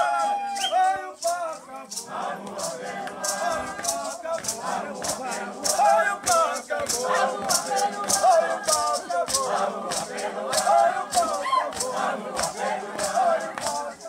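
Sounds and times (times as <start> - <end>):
maracas shaken in steady beat: 0.0 - 14.0
group of voices chanting: 1.9 - 14.0.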